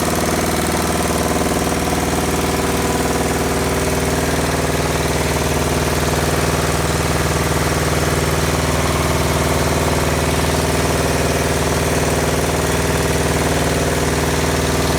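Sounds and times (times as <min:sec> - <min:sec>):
washing machine beating drone: 0:00.0 - 0:14.9.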